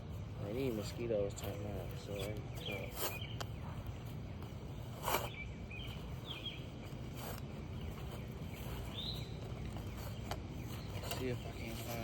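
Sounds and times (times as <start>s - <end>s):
digging in wet soil: 0.0s - 12.0s.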